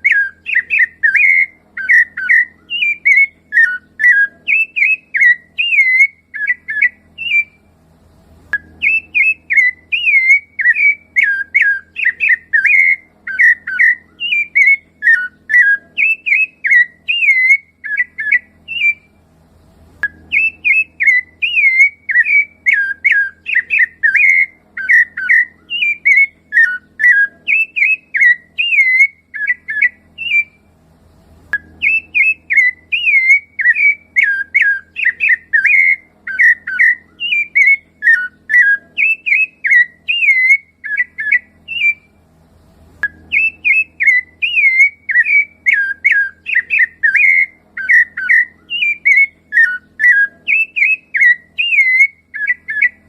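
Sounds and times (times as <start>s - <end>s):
thrush singing fluty whistles: 0.0s - 7.7s, 8.6s - 19.2s, 20.0s - 30.7s, 31.5s - 42.2s, 43.0s - 53.0s.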